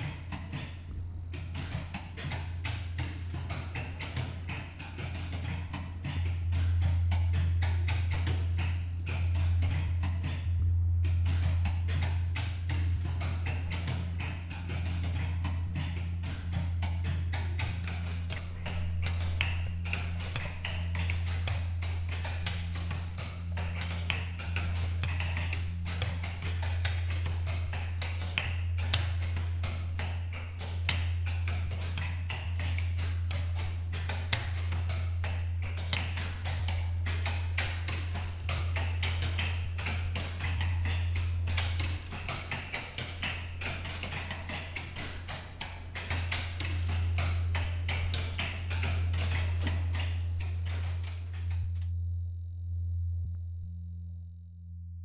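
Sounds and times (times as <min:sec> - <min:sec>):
solenoids clicking and tapping: 0:00.0 - 0:54.5
steady low drone: 0:00.0 - 0:55.0.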